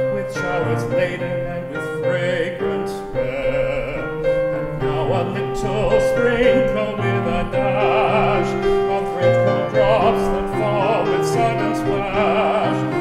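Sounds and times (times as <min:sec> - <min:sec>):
grand piano accompaniment: 0:00.0 - 0:13.0
man singing operatically: 0:00.0 - 0:13.0.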